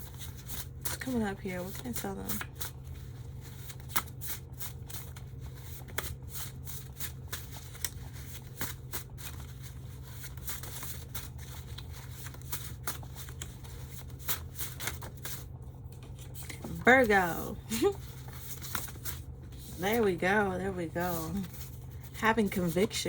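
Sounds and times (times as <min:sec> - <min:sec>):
cards being shuffled: 0:00.0 - 0:20.2, 0:21.0 - 0:23.0.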